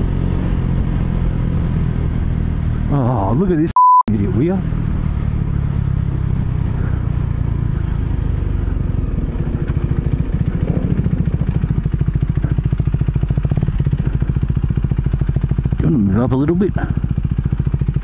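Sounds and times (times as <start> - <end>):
motorcycle engine: 0.0 - 18.0
wind and road noise: 0.0 - 18.0.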